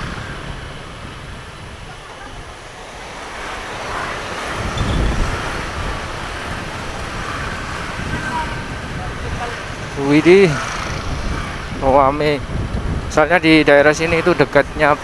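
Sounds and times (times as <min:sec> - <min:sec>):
motorcycle passing by: 0:00.0 - 0:12.4
motorcycle engine hum: 0:00.0 - 0:14.9
wind on microphone: 0:00.0 - 0:15.0.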